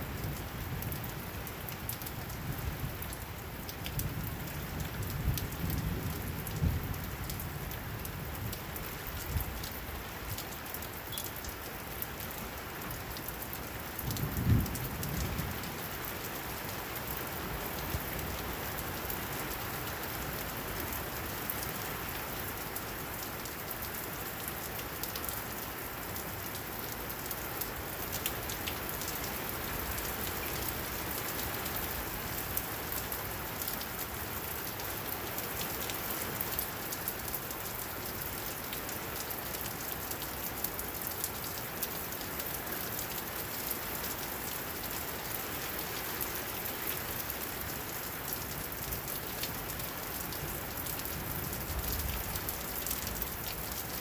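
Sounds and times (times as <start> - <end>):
rain on pavement and roofs: 0.0 - 54.0.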